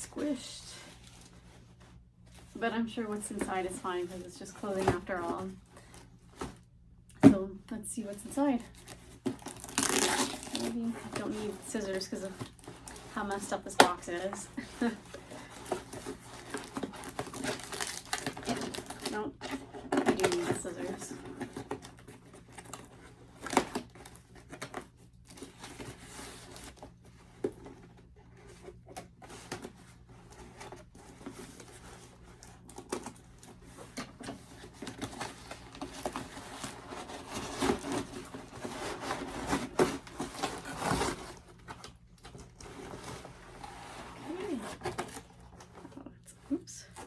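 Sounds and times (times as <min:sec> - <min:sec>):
cardboard and tape rustling: 0:00.0 - 0:47.0.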